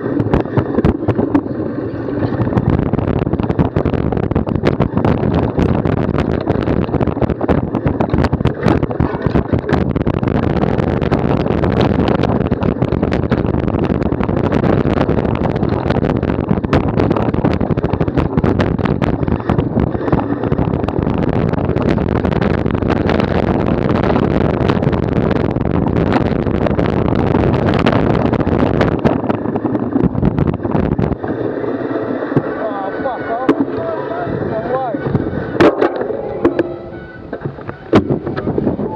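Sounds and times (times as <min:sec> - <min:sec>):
bike rattling and knocking: 0:00.0 - 0:34.0, 0:34.6 - 0:38.9
wind rushing over microphone: 0:00.0 - 0:38.9.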